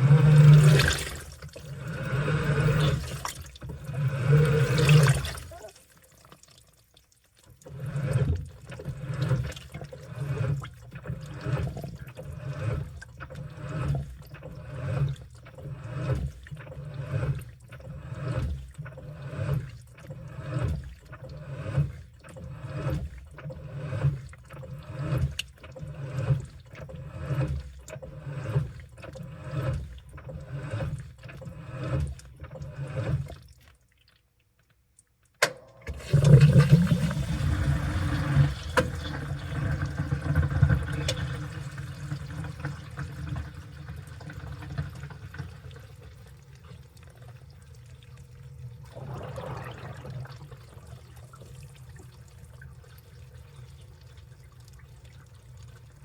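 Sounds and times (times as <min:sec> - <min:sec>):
washing machine sloshing: 0:00.0 - 0:56.0.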